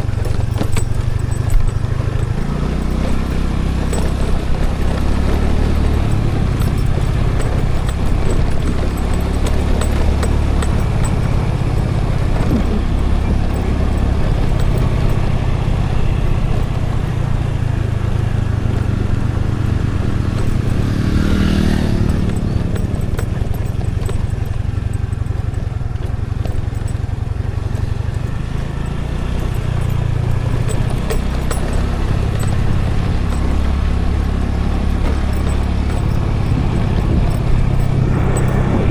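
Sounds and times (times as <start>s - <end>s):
vehicle passing close by: 0.0s - 24.3s, 27.3s - 38.9s
scooter engine and road noise: 0.0s - 38.9s
wind rumble on microphone: 0.0s - 38.9s.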